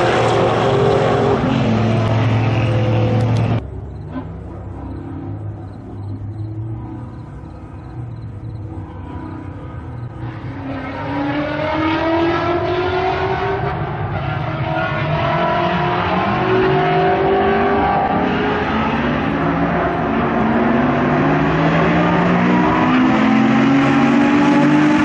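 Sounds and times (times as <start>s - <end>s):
car engines accelerating: 0.0s - 25.0s.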